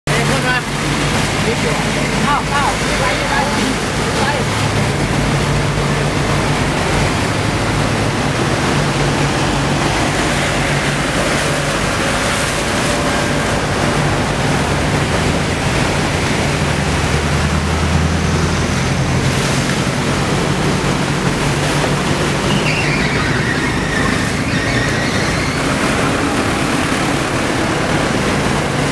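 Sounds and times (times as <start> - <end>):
rush of water: 0.0 - 28.9.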